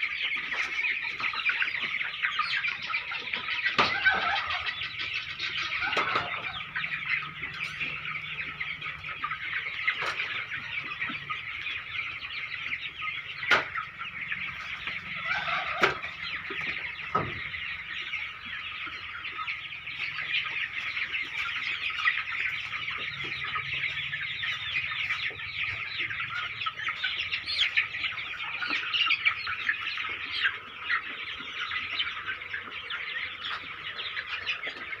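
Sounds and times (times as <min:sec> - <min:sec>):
chicks cheeping: 0:00.0 - 0:35.0.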